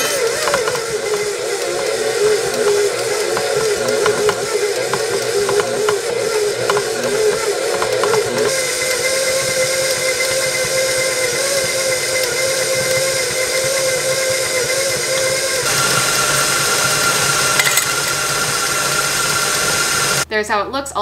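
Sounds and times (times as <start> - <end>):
stand mixer motor whine: 0.0 - 20.3.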